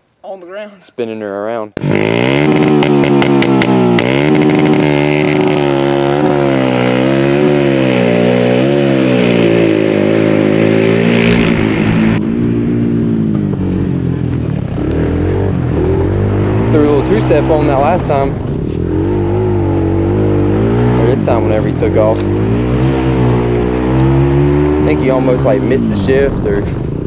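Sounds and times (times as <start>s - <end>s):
quad engine revving: 1.8s - 27.0s.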